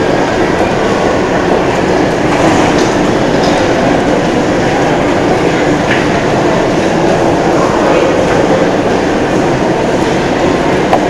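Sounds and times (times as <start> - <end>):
crowd hubbub: 0.0 - 11.0
traffic roar: 0.0 - 11.0.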